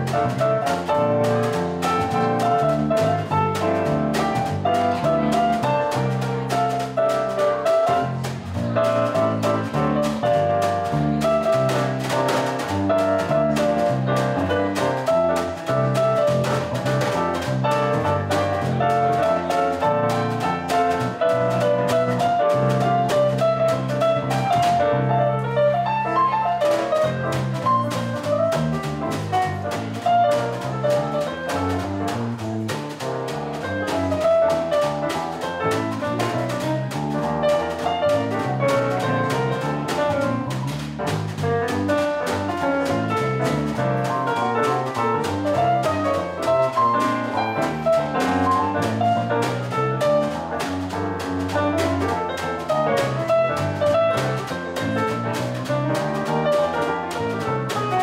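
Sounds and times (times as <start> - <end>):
jazz piano: 0.0 - 58.0.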